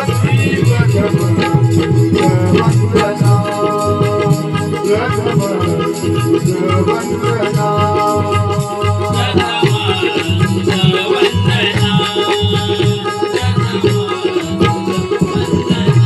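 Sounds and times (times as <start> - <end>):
hand drum beat: 0.0 - 16.0
sustained melody notes: 0.0 - 16.0.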